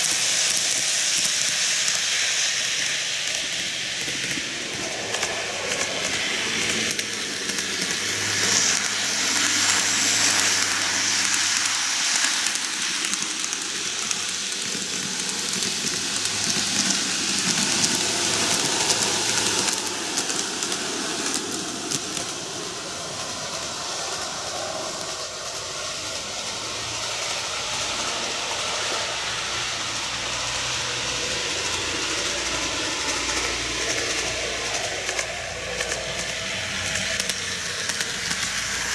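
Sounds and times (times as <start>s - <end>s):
model train motor whirring: 0.0s - 38.9s
wheels clicking over rail joints: 0.0s - 38.9s.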